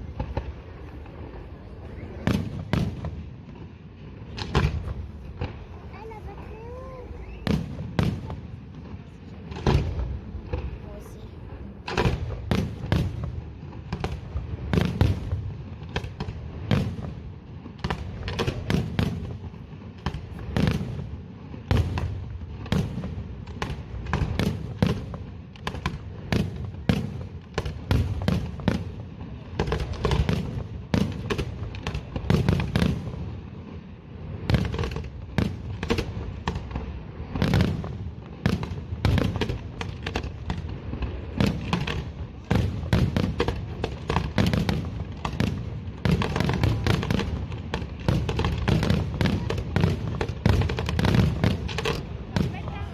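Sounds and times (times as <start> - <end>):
fireworks bangs and booms: 0.0 - 52.9.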